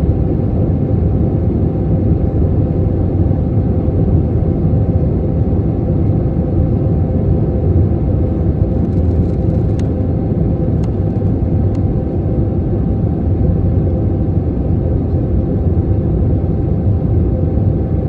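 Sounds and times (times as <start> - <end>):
airplane rumble in flight: 0.0 - 18.0.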